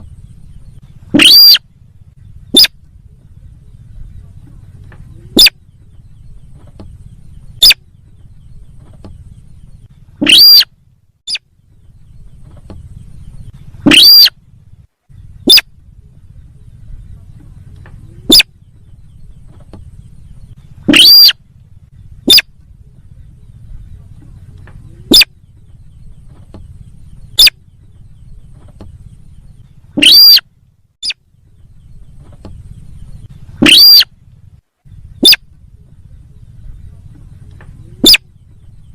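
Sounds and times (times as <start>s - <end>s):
bird calls rising and falling: 0.0s - 3.8s, 4.4s - 15.8s, 17.2s - 22.7s, 23.4s - 38.9s
faint low hum: 0.0s - 38.9s.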